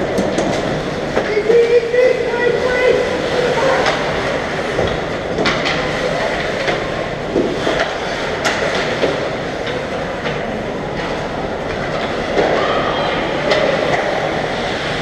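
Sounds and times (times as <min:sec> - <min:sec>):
hockey sticks and puck clacking: 0:00.0 - 0:12.8, 0:13.4 - 0:15.0
voices echoing in rink: 0:00.0 - 0:15.0.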